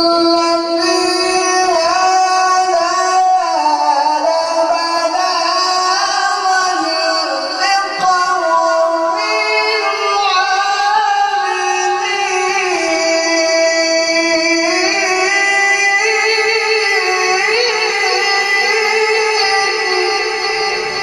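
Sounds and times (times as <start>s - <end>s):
man reciting melodically: 0.0s - 21.0s.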